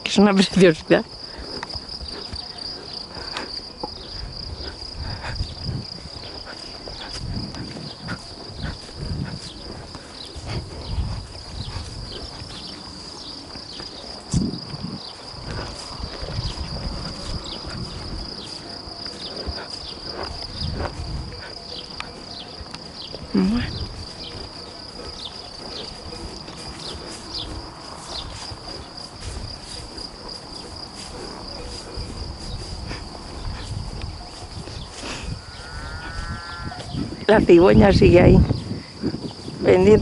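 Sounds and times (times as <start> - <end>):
insects chirring: 0.0 - 40.0
footsteps through grass: 0.2 - 39.8.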